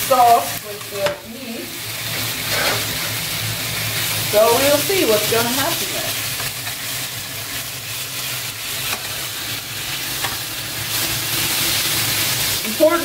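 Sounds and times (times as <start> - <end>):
chicken sizzling in butter: 0.0 - 13.0.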